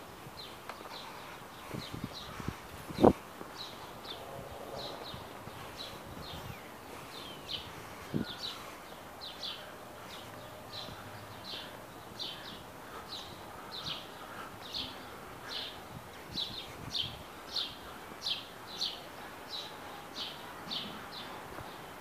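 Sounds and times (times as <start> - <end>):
faint outdoor background noise: 0.0 - 22.0
bird chirping: 0.3 - 22.0.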